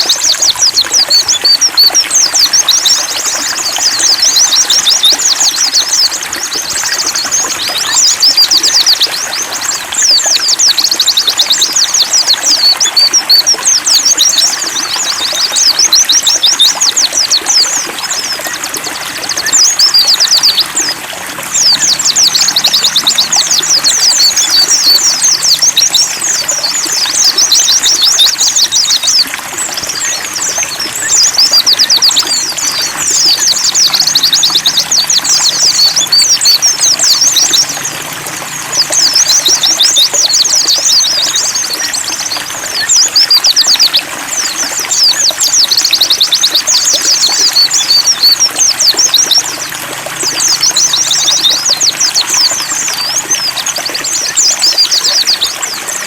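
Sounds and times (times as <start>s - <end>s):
small birds twittering: 0.0s - 56.0s
water trickling: 0.0s - 56.0s.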